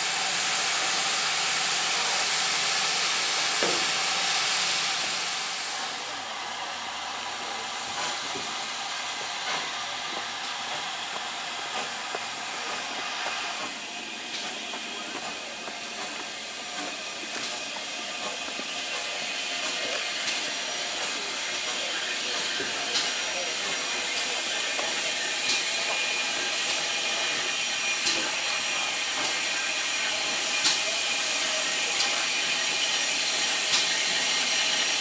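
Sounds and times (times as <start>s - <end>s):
steam locomotive hissing steam: 0.0s - 35.0s.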